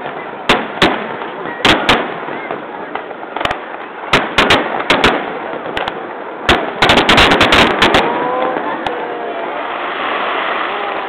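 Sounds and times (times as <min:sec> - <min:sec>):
fireworks bursting with bangs: 0:00.0 - 0:11.0
fireworks crackling: 0:00.0 - 0:11.0.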